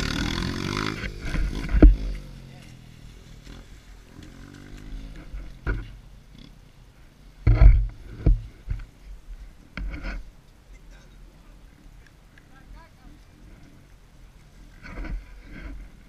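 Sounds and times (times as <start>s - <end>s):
dirt bike engines idling: 0.0s - 16.0s.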